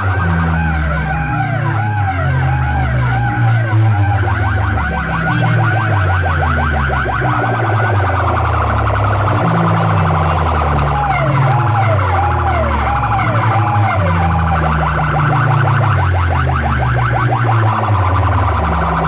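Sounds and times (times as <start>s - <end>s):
dance track with heavy bass: 0.0s - 19.0s
siren effect sweeps: 0.0s - 19.0s.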